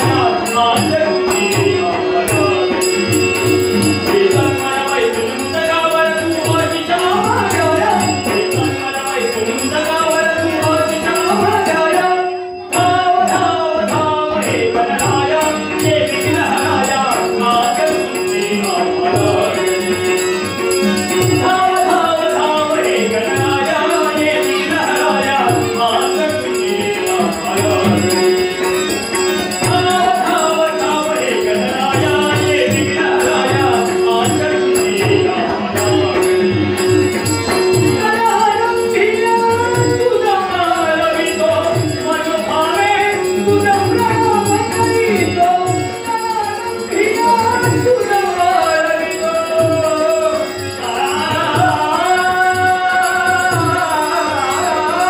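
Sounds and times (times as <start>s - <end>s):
harmonium drone: 0.0s - 55.0s
man singing devotional song: 0.0s - 55.0s.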